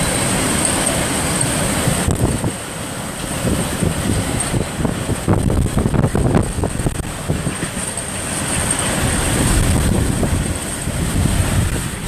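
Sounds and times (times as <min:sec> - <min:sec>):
sharp wind gusts: 0:00.0 - 0:12.0
strong wind buffeting a car: 0:01.6 - 0:12.0.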